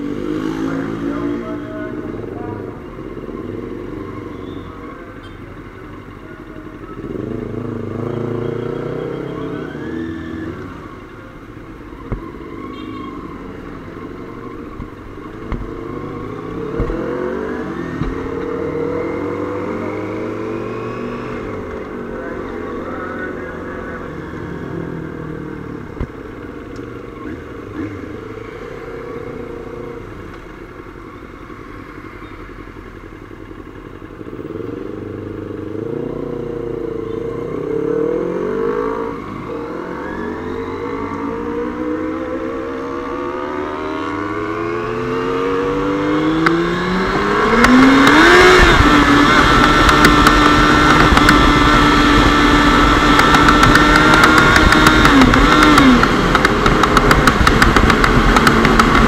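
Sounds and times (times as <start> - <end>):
motorcycle engines revving: 0.0 - 59.0
road and wind noise: 0.0 - 59.0.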